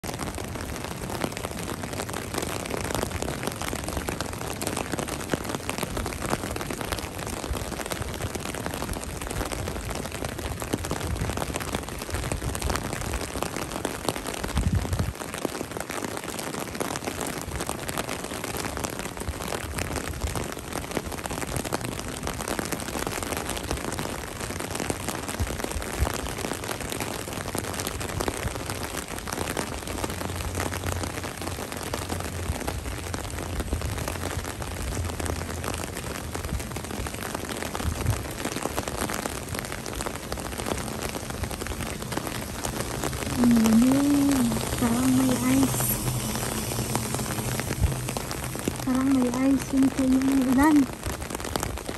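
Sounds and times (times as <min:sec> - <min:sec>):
rain on pavement: 0:00.0 - 0:51.9.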